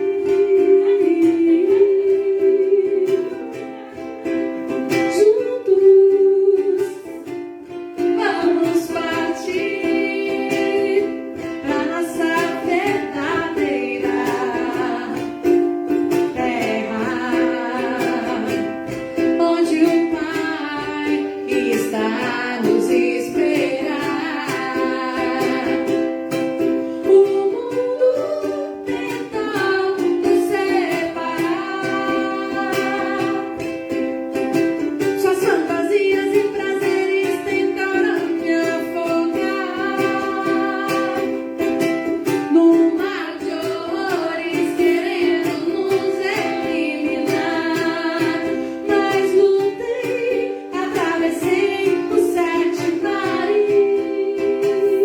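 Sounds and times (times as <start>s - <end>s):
plucked string instrument: 0.0s - 55.0s.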